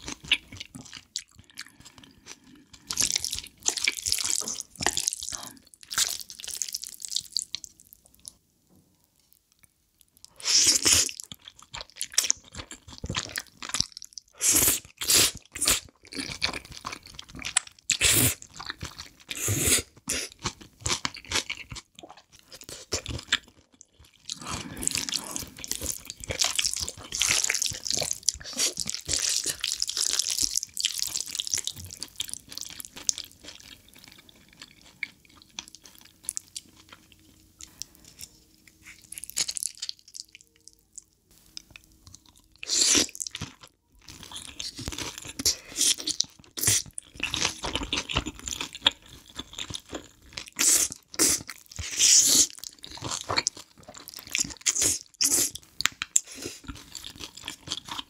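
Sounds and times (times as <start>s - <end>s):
slurping and chewing noodles: 0.0s - 7.6s, 10.3s - 40.4s, 41.3s - 58.0s.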